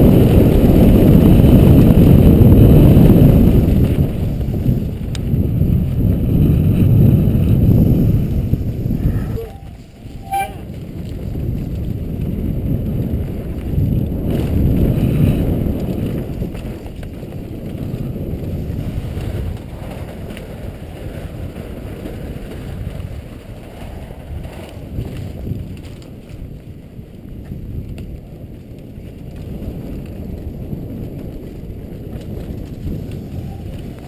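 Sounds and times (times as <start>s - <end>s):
bike tyres rolling on dirt: 0.0s - 34.0s
wind on microphone: 0.0s - 34.0s.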